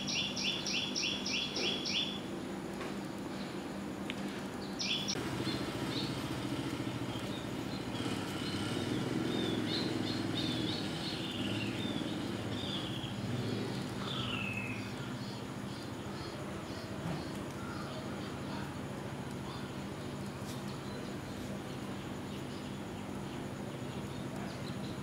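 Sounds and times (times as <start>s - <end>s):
small birds chirping: 0.0s - 2.3s, 3.2s - 25.0s
low mechanical hum: 0.0s - 25.0s.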